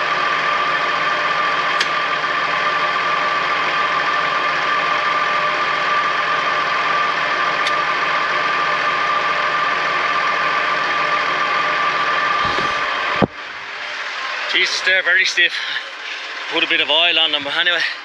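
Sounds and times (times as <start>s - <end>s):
high-pitched whine: 0.0s - 18.0s
tractor engine running: 0.0s - 18.0s.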